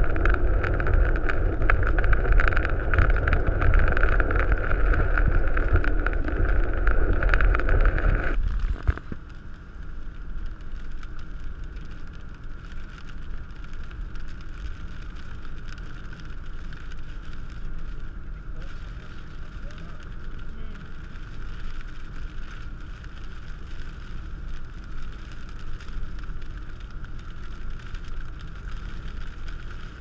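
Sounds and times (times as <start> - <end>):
car road and wind noise: 0.0 - 30.0
rain ticking: 0.0 - 30.0.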